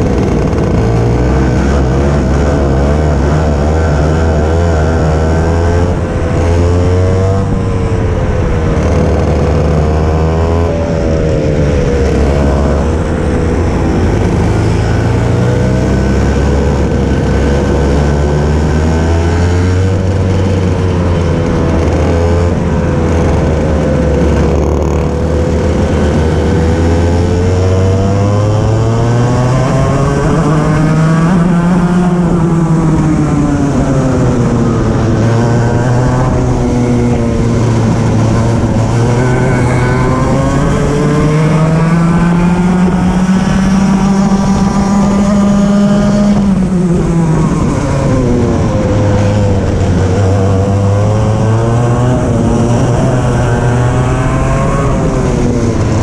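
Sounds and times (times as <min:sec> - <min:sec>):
kart engine revving: 0:00.0 - 0:56.0
other kart engines: 0:00.0 - 0:56.0.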